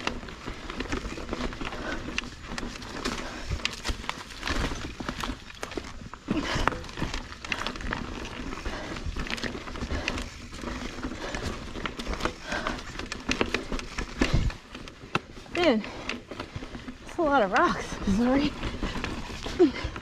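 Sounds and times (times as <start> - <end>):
bike knocking and rattling on rocks: 0.0 - 20.0
tyres crunching over dirt and stones: 0.0 - 20.0.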